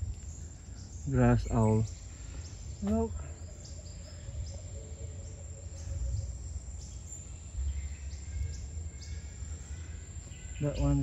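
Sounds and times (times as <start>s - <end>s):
faint steady hum: 0.0s - 11.0s
low microphone rumble: 0.0s - 11.0s.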